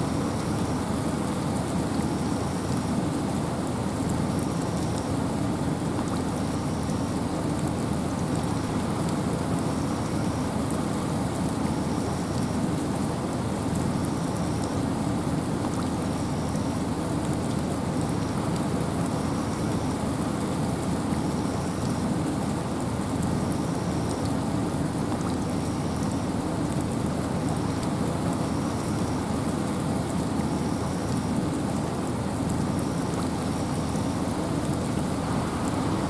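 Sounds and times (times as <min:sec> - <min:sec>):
rain: 0:00.0 - 0:36.0
wind in forest: 0:00.0 - 0:36.0.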